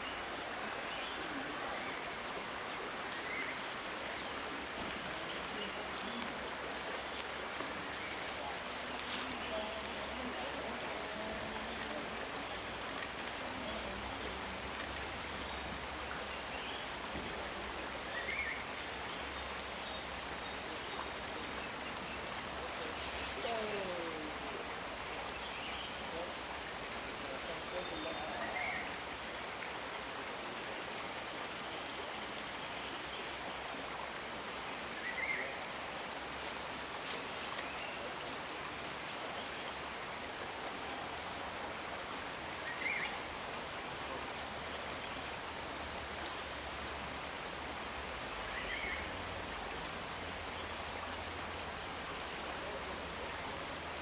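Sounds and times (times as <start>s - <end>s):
forest insects chorus: 0.0s - 54.0s.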